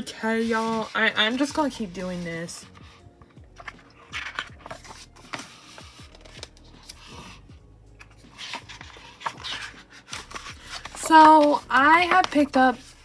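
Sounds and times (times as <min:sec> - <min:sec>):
paper pages turning: 0:00.0 - 0:13.0.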